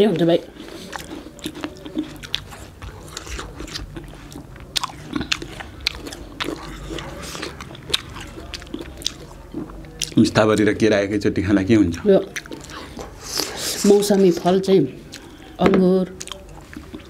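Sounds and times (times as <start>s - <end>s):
people biting and chewing fruit: 0.0s - 10.7s, 11.9s - 14.4s, 15.0s - 17.0s.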